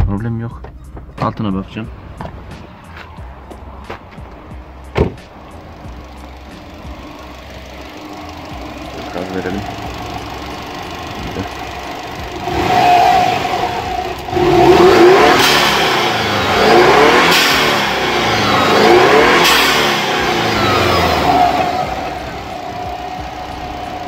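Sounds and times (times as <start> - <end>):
car engine revving: 1.7 - 24.0.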